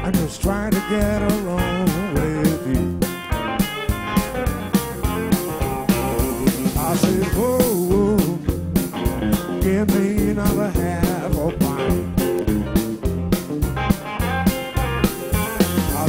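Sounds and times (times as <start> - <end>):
bending lead guitar line: 0.0 - 16.0
live blues band playing: 0.0 - 16.0.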